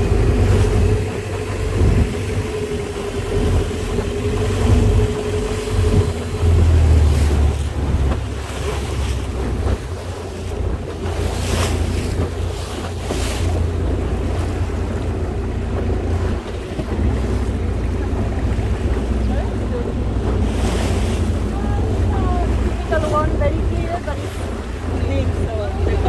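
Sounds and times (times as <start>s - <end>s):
boat engine running: 0.0s - 26.0s
water rushing: 0.0s - 26.0s
wind buffeting microphone: 0.0s - 26.0s.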